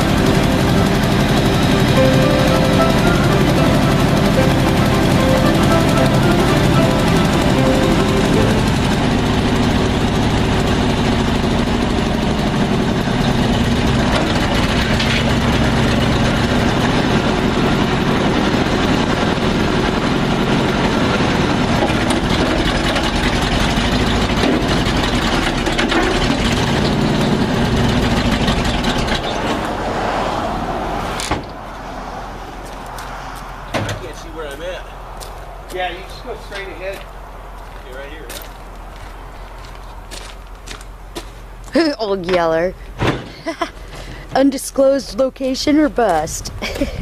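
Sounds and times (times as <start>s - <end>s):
truck engine running: 0.0s - 47.0s.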